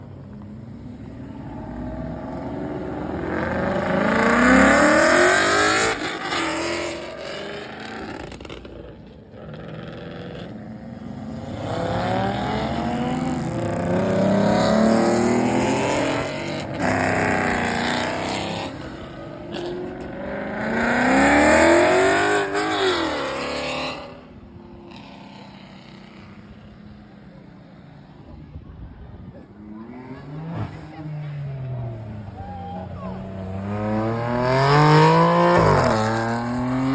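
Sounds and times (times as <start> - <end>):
car engines revving hard: 0.8 - 26.2, 29.6 - 32.4, 33.0 - 36.9.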